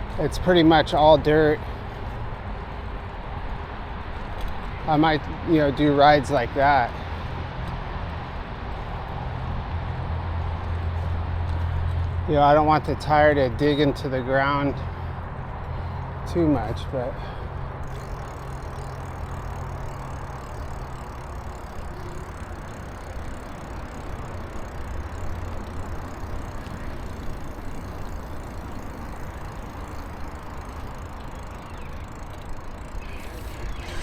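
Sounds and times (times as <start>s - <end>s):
bicycle tyre and road noise: 0.0s - 34.0s.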